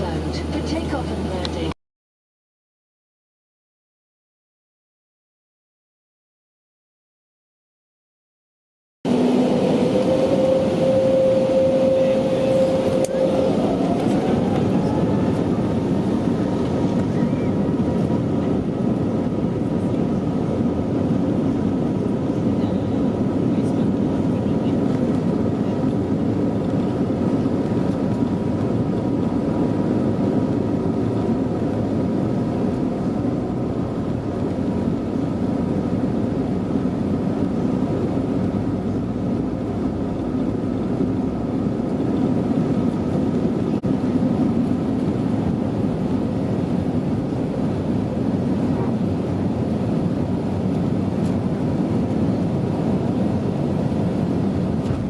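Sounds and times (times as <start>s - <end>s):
engine and airflow rumble: 0.0s - 1.8s, 9.1s - 55.0s
faint steady whines: 9.1s - 55.0s.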